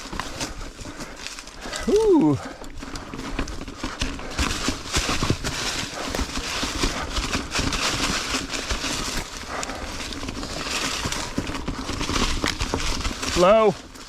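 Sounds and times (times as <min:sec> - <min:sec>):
bike knocking over rocks: 0:00.0 - 0:14.0.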